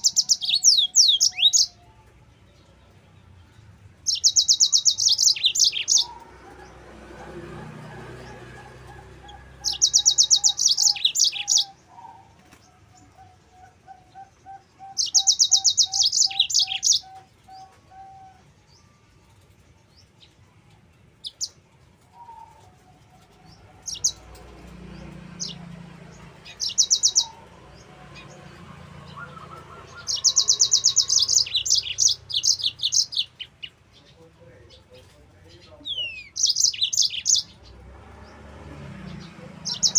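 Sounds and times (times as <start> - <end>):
canary trilling song: 0.0 - 39.9.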